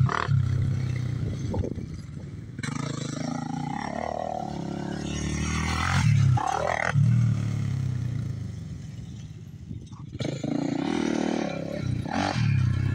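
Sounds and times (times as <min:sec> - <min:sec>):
quad bike engine revving: 0:00.0 - 0:01.9, 0:02.6 - 0:08.5, 0:10.1 - 0:12.9.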